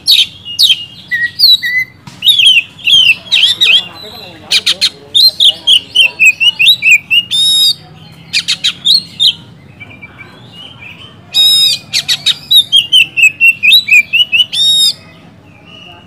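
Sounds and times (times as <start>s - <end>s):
magpie-robin singing: 0.0s - 16.0s.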